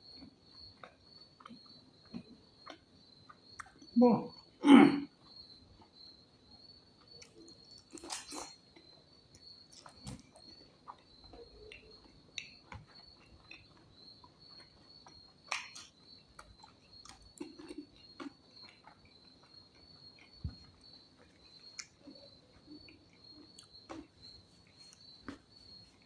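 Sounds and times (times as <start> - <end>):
crickets chirring: 0.0 - 26.0
chewing clicks and smacks: 0.1 - 4.5, 7.0 - 26.0.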